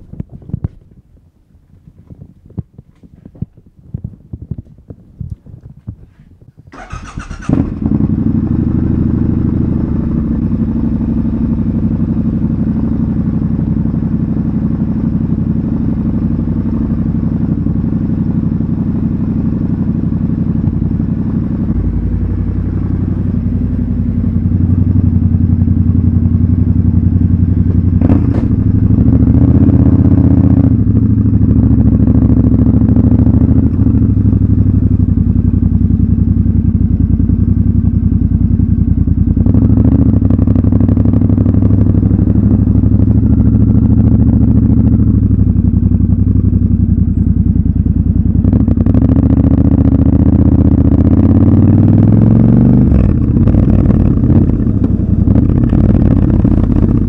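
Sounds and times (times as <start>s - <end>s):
motorcycle engine idling: 6.0s - 57.0s.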